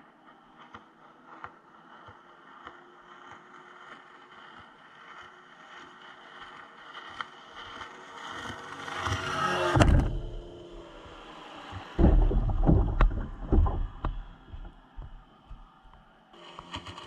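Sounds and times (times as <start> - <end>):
outboard motor passing: 0.0 - 17.0
boat wake splashing and knocking: 0.1 - 17.0.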